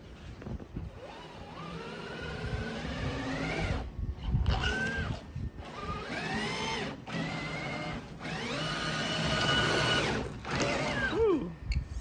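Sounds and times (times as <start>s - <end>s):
electric motor whining: 0.0s - 11.8s.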